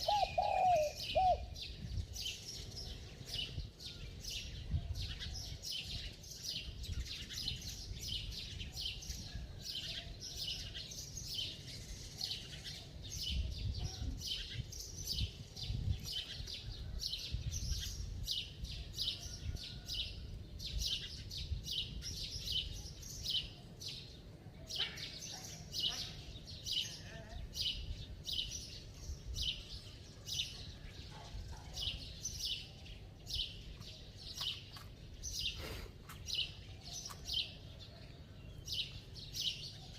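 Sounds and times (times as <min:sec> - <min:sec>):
small birds chirping: 0:00.0 - 0:19.9, 0:20.5 - 0:39.9.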